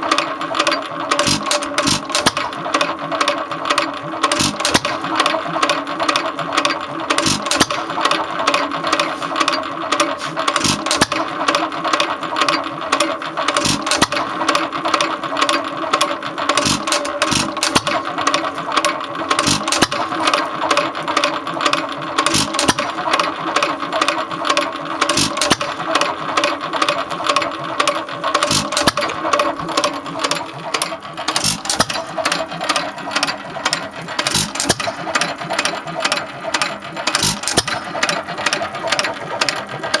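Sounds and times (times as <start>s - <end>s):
stationary engine running: 0.0s - 40.0s.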